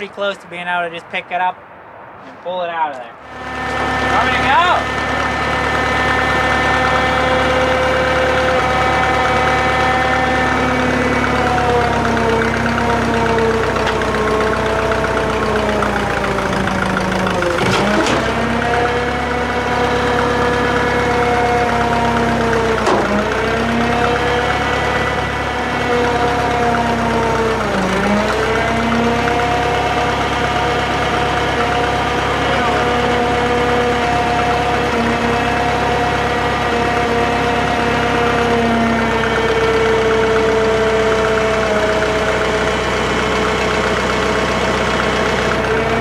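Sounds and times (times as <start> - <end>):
crane engine running: 3.2 - 46.0.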